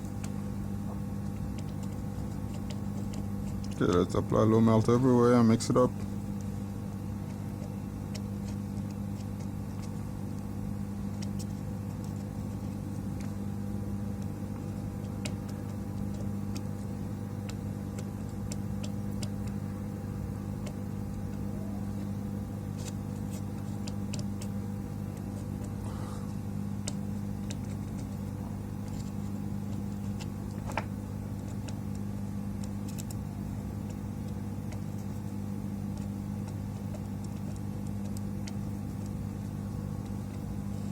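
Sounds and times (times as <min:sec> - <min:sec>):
electronic equipment humming: 0:00.0 - 0:40.9.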